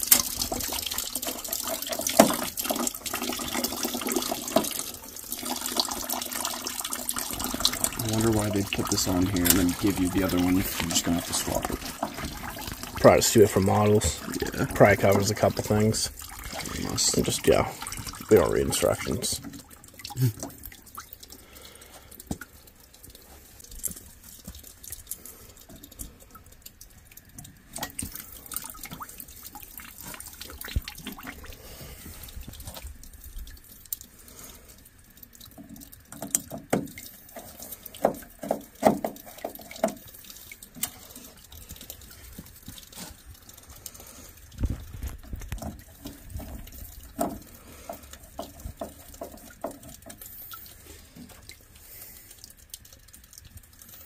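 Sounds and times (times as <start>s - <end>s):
water dripping and trickling: 0.0s - 54.0s.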